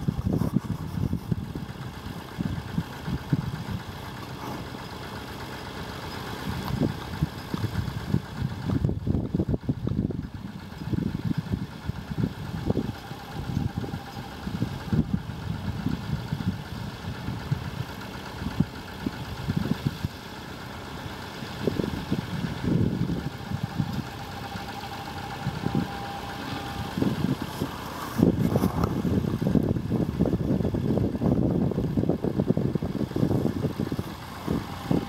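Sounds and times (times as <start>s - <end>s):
wind buffeting microphone: 0.0s - 4.2s, 6.4s - 20.2s, 21.6s - 24.2s, 25.3s - 35.0s
tractor engines running: 0.0s - 35.0s.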